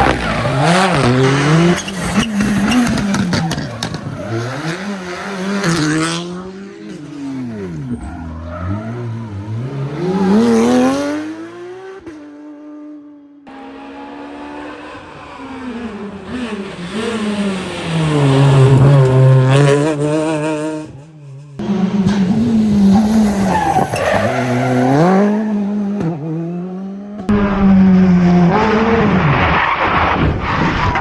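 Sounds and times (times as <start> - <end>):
rally car engines at full throttle: 0.0 - 31.0.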